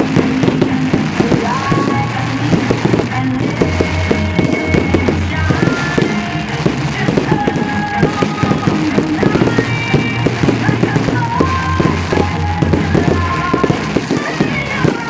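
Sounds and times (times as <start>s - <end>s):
fireworks crackling and banging: 0.0s - 15.0s
music playing: 0.0s - 15.0s.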